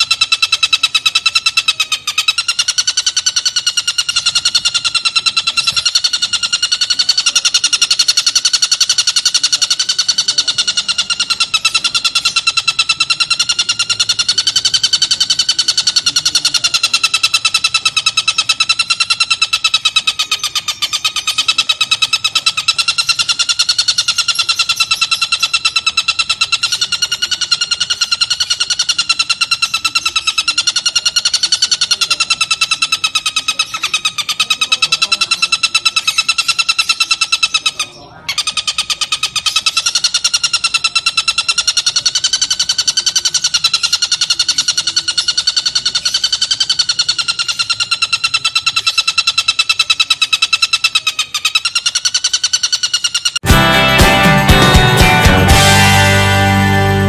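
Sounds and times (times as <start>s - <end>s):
bird chattering rattle: 0.0s - 53.5s.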